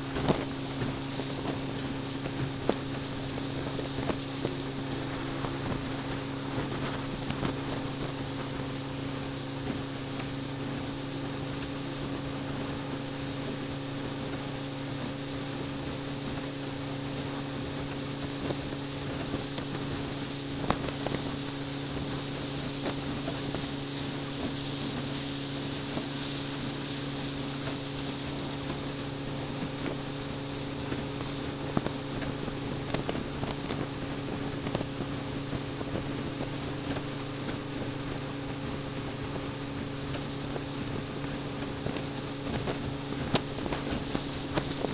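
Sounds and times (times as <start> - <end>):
boat engine humming: 0.0 - 44.9
wind and water rushing: 0.0 - 44.9.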